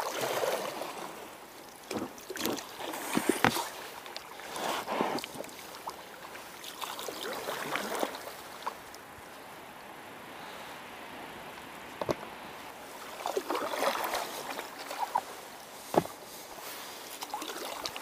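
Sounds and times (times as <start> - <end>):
oars splashing in water: 0.0 - 9.0, 11.9 - 18.0.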